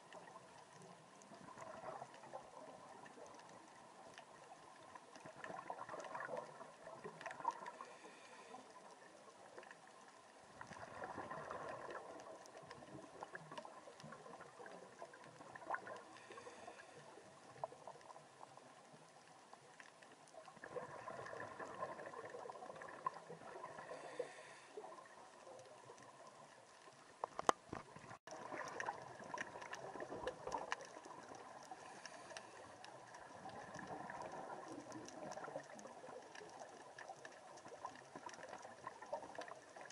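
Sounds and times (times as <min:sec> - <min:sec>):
exhaled bubbles underwater: 0:00.0 - 0:39.9.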